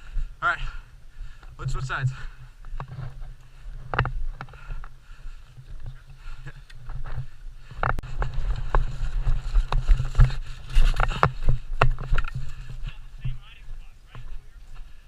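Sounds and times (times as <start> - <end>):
footsteps: 0.0 - 15.0
wind rumbling on microphone: 0.0 - 15.0.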